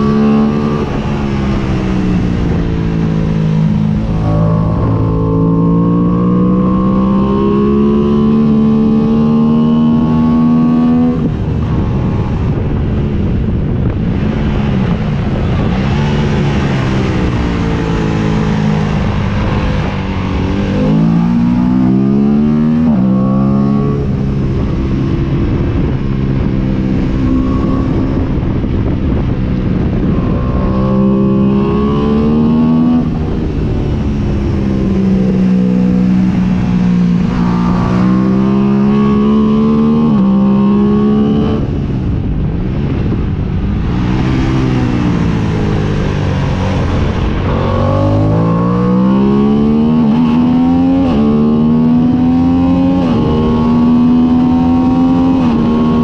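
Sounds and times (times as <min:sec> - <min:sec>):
motorcycle engine revving: 0:00.0 - 0:56.0
wind rushing: 0:00.0 - 0:56.0.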